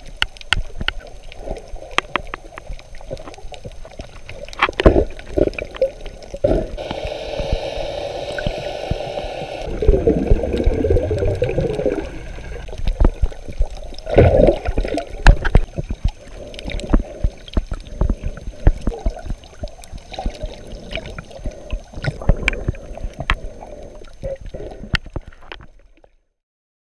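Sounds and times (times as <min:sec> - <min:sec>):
muffled underwater gurgling: 0:00.0 - 0:25.6.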